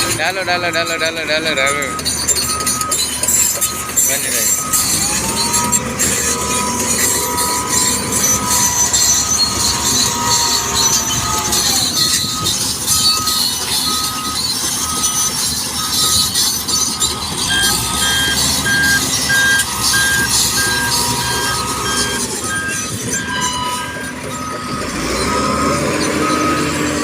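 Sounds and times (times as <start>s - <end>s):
engine and machinery noise: 0.0s - 27.0s
reversing alarm beeping: 0.0s - 27.0s.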